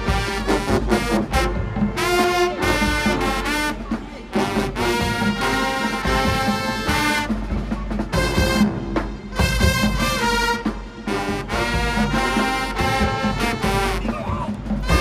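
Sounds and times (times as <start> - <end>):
drums: 0.0 - 15.0
marching band playing: 0.0 - 15.0
trombones and trumpets blasting: 0.0 - 15.0.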